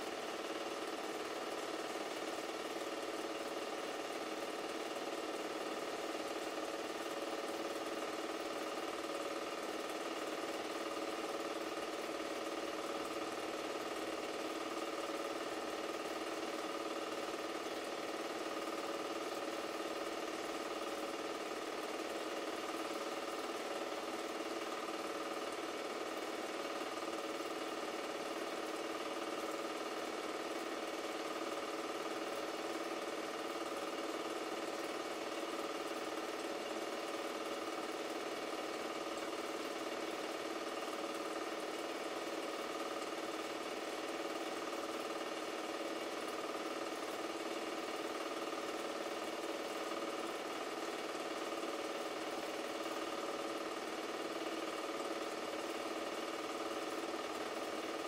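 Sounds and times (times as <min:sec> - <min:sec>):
film projector running: 0:00.0 - 0:58.0.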